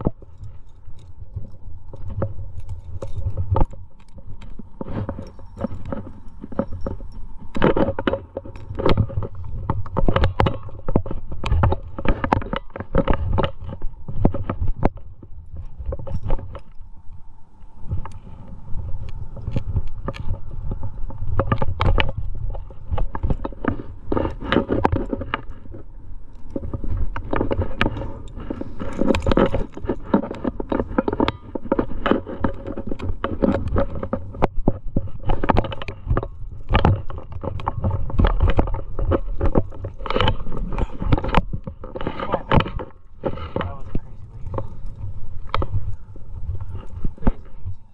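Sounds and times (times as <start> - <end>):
hands and shoes scraping rock: 0.0 - 16.7, 17.7 - 47.9
climbing gear clinking: 0.0 - 17.0, 17.8 - 47.7
camera handling rumble: 0.0 - 47.9.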